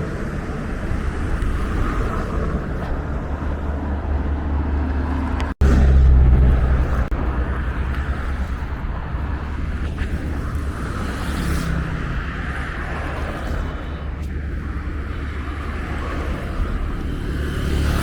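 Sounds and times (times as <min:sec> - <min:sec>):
deep engine rumble passing: 0:00.0 - 0:18.0
vehicle engines rumbling: 0:00.0 - 0:18.0.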